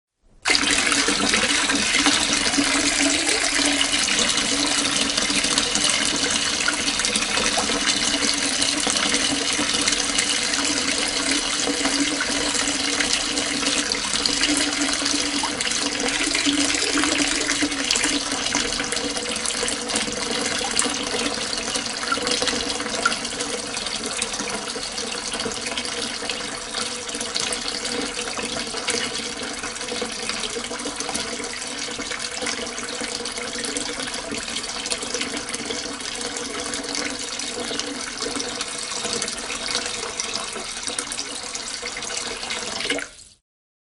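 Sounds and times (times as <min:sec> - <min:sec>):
tap water pouring into sink: 0:00.4 - 0:43.4.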